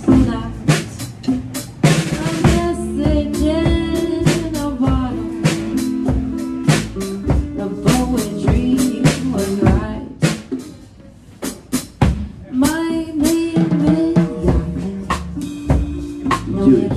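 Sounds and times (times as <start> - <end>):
drum and cymbal hits: 0.0 - 16.9.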